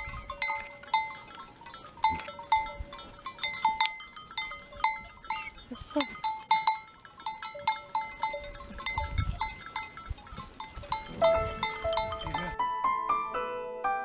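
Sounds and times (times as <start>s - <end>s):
goat bells clanking: 0.0s - 12.6s.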